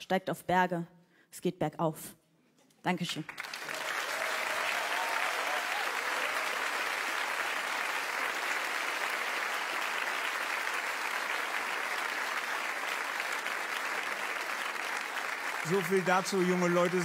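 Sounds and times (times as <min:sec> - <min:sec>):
audience applauding: 0:03.3 - 0:17.0.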